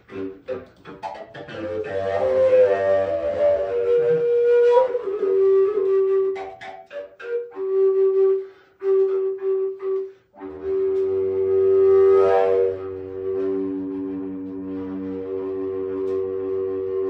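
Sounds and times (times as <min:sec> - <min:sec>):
wooden flute melody: 0:00.0 - 0:17.0.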